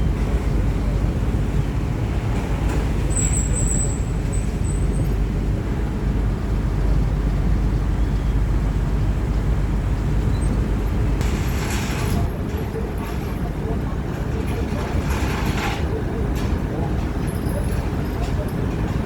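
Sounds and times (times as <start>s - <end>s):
road rumble: 0.0s - 19.0s
wind noise: 0.0s - 19.0s.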